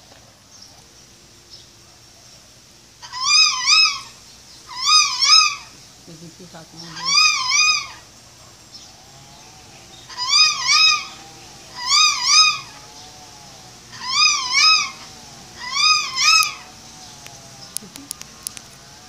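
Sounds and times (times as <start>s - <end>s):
cockatoo calling: 1.8s - 19.0s.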